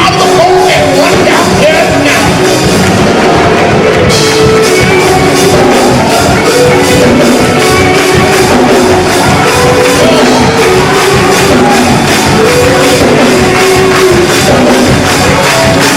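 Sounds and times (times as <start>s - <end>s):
band music: 0.0s - 15.9s
drum kit beat: 0.0s - 15.9s.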